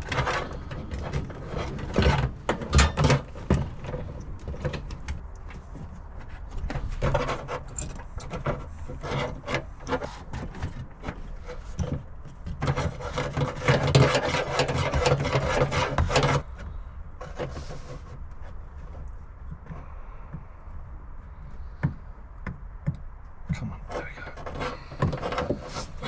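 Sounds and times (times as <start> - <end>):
rasping scraping: 0.0 - 22.1, 23.5 - 26.0.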